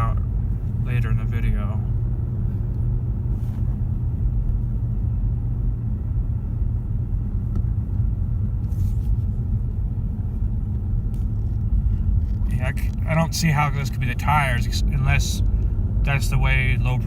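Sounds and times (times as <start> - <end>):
road rumble and tyre hum in car: 0.0 - 17.0.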